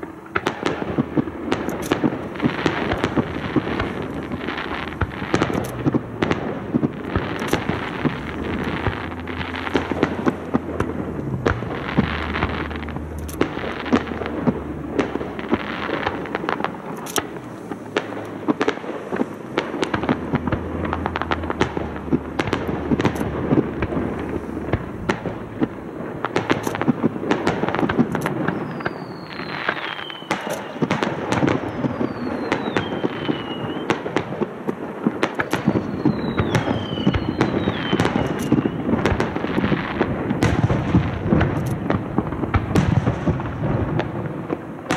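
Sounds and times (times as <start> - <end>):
falling firework whistles: 0.0 - 44.9
fireworks bangs and crackles: 0.0 - 44.9.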